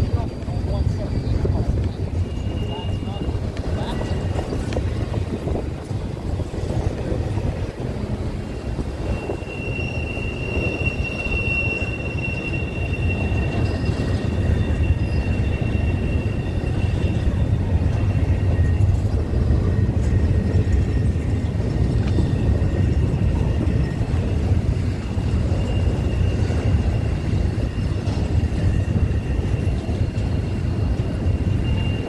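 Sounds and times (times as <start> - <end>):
train wheels rumbling: 0.0 - 32.0
high-pitched wheel squeal: 0.7 - 5.0, 8.4 - 21.1, 21.7 - 32.0.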